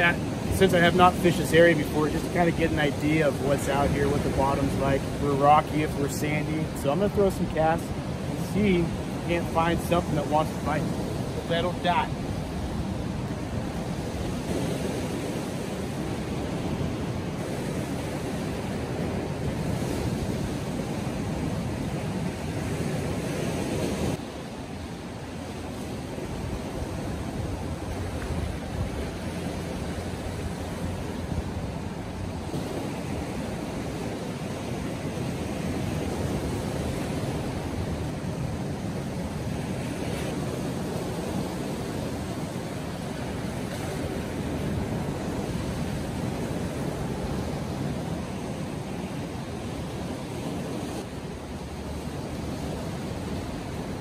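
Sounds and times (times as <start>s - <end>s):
ocean surf on rocks: 0.0s - 54.0s.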